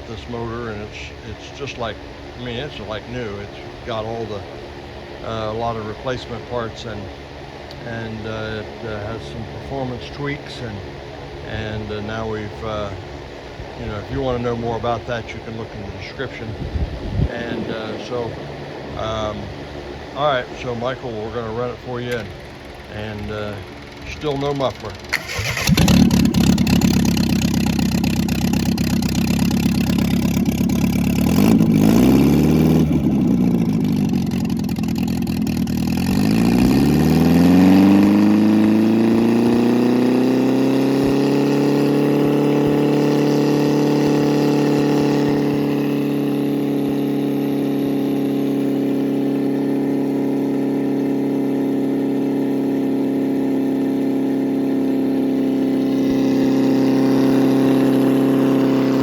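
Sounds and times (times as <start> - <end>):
unmuffled car engine revving: 0.0 - 59.0.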